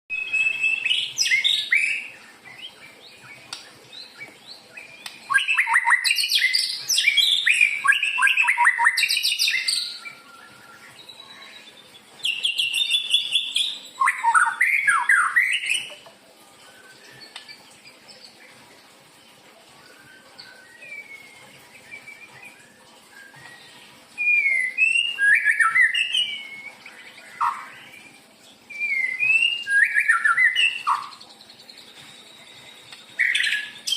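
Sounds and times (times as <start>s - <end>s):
bird singing whistled phrases: 0.1s - 16.0s, 16.6s - 17.6s, 19.7s - 33.9s.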